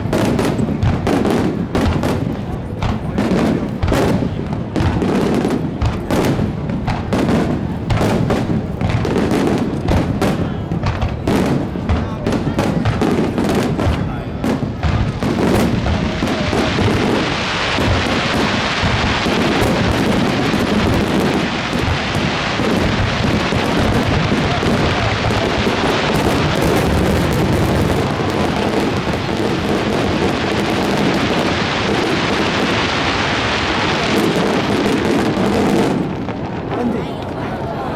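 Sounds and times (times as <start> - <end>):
fireworks rumble and crackle: 0.0 - 37.9.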